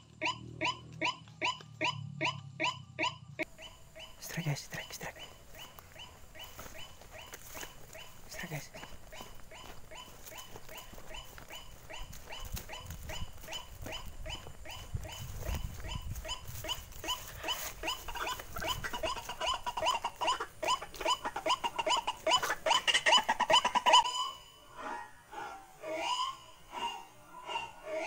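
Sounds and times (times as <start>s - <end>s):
waterhen croaking calls: 0.0s - 28.0s.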